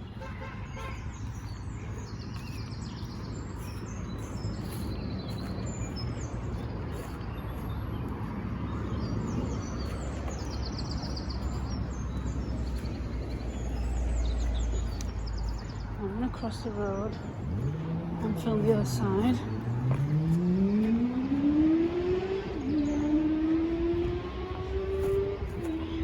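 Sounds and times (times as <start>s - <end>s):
road traffic rumble: 0.0s - 26.0s
small songbirds chirping: 0.0s - 26.0s.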